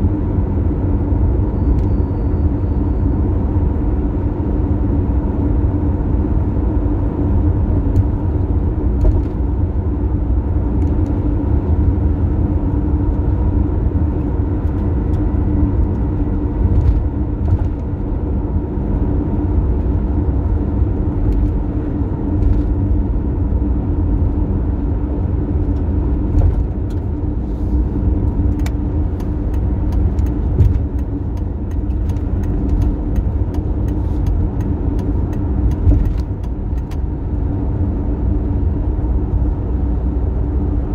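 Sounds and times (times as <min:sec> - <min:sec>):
car driving at highway speed: 0:00.0 - 0:40.9.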